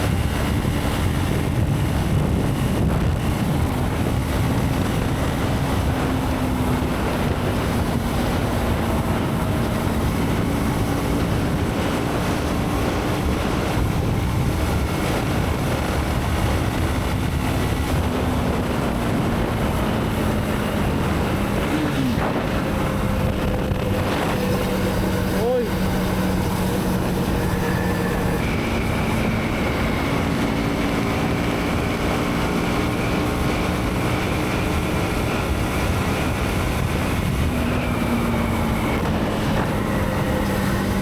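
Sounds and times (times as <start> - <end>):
motorcycle engine hum: 0.0 - 41.0
wind rush over microphone: 0.0 - 41.0.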